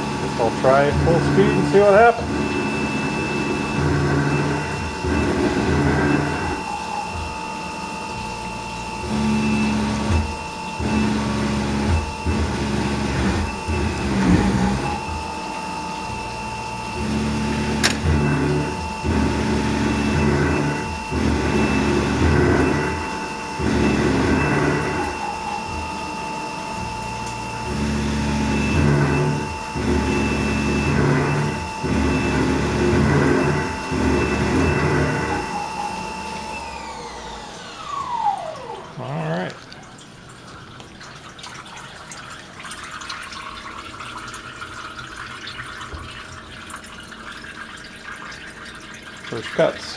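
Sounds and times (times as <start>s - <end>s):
milling machine high whine: 0.0s - 40.3s, 42.9s - 49.9s
motor hum changing pitch: 0.0s - 40.9s.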